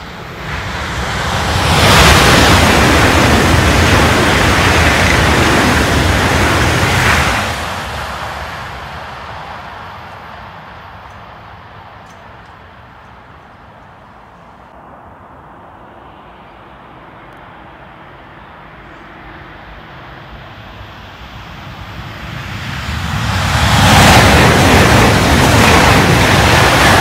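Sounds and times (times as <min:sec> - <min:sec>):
high-speed train rushing: 0:00.0 - 0:27.0.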